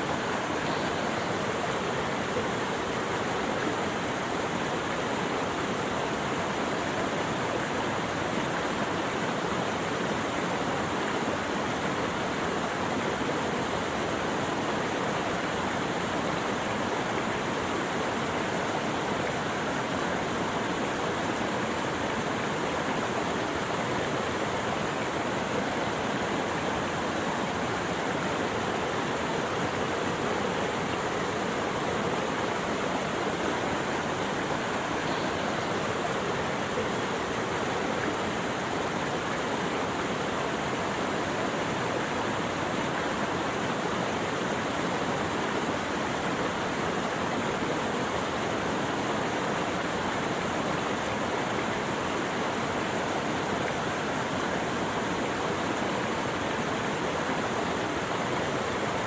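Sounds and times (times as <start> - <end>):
stream rushing water: 0.0 - 59.0.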